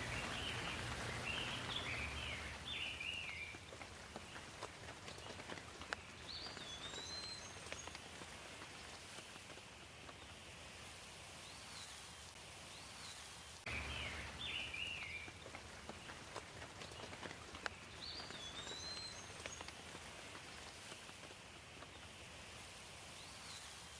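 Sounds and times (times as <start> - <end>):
water drips: 0.0 - 12.4, 13.7 - 23.8
light rain pattering: 0.0 - 23.9.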